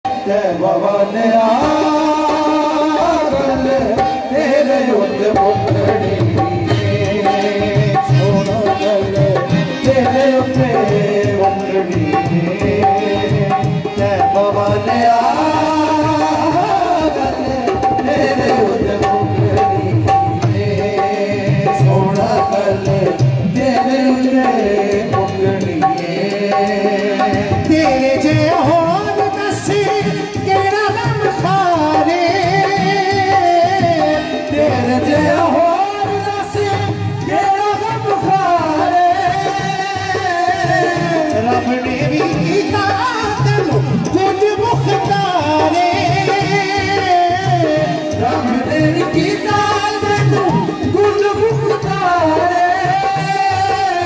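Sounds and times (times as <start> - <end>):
harmoniums playing melody: 0.0 - 54.0
man singing: 0.0 - 54.0
hand drum rhythm: 1.6 - 54.0.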